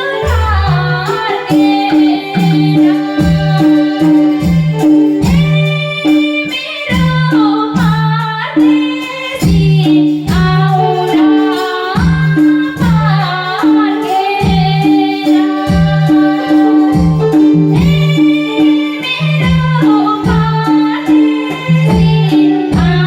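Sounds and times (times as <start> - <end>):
music backing track: 0.0 - 23.0
woman singing: 0.0 - 23.0.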